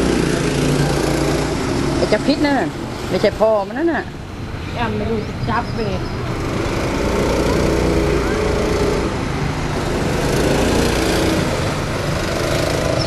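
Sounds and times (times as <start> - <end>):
go-kart engine running: 0.0 - 3.4, 5.1 - 13.0.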